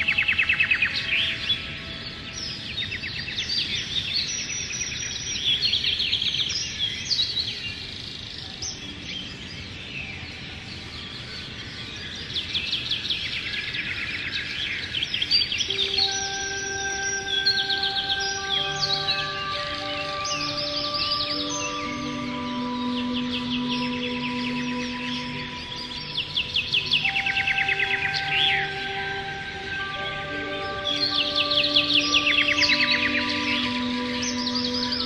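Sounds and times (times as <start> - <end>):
soft ambient music: 0.0 - 35.0
songbirds singing: 0.0 - 35.0.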